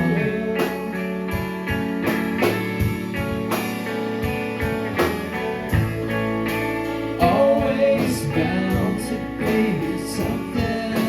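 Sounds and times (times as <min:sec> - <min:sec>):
guitar: 0:00.0 - 0:11.0
live band playing: 0:00.0 - 0:11.0.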